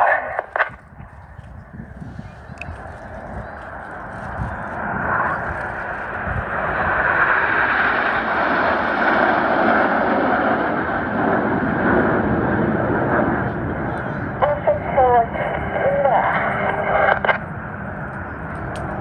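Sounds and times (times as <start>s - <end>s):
jets flying past roaring: 0.0s - 19.0s.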